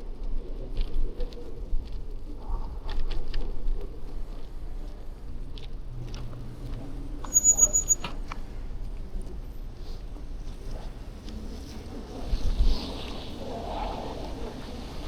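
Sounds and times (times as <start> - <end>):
rumble of tyres and wind: 0.0 - 15.0.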